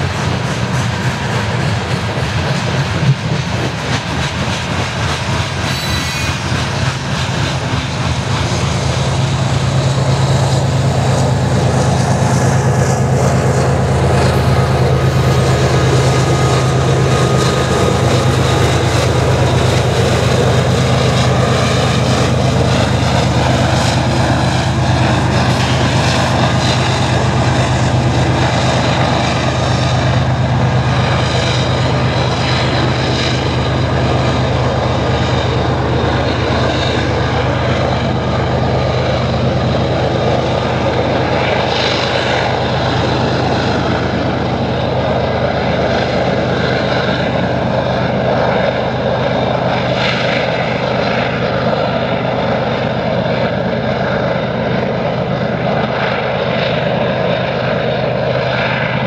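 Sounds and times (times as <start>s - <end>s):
diesel locomotive drone: 0.0s - 59.0s.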